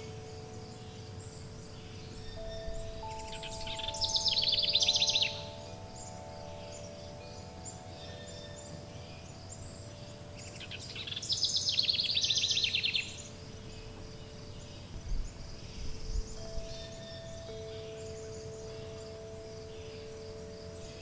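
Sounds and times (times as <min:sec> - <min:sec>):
chime tones ringing: 0:00.0 - 0:14.6, 0:16.0 - 0:21.0
faint bird chirps: 0:00.0 - 0:21.0
songbird trilling: 0:00.0 - 0:21.0.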